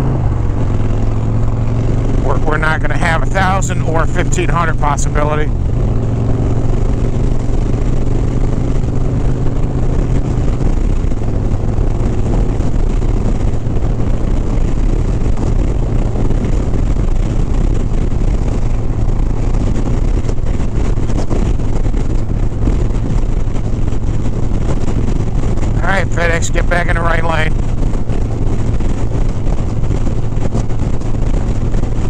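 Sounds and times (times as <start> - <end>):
motorcycle engine cruising: 0.0 - 32.0
wind noise on microphone: 0.0 - 32.0.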